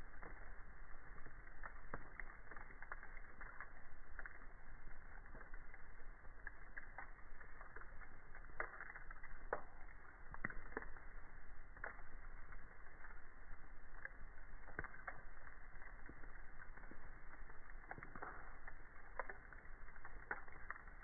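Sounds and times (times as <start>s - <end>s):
burning wood popping: 0.0s - 21.0s
campfire crackling: 0.0s - 21.0s.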